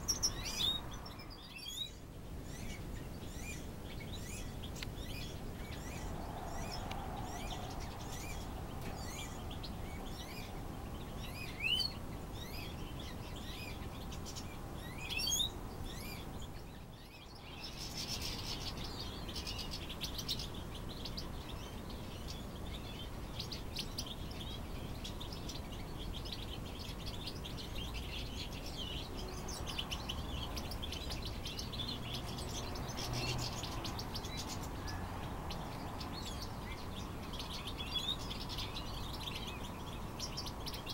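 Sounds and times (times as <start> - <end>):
finches chirping: 0.0 - 40.9.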